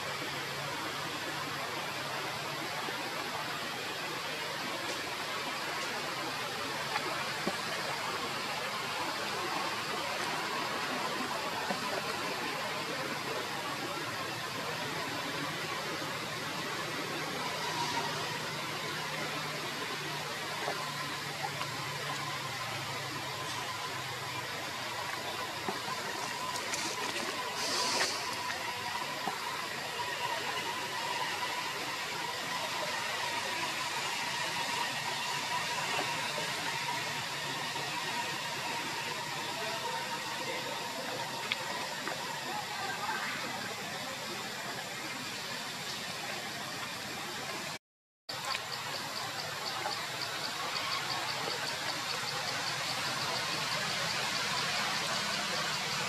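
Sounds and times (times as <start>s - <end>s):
faint constant high tone: 0.0s - 56.0s
outdoor ambient hiss: 0.0s - 56.0s.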